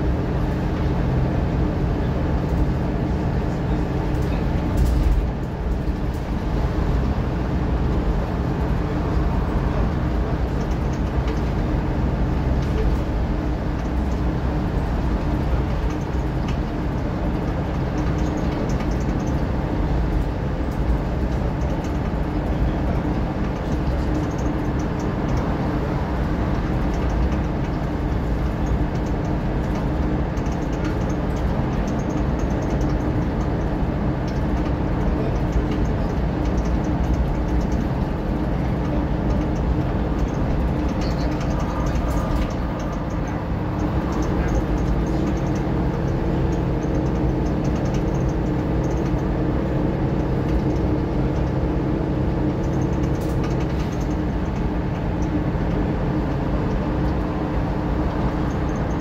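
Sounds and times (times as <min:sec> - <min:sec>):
diesel bus engine drone: 0:00.0 - 0:59.0
road and tyre noise: 0:00.0 - 0:59.0.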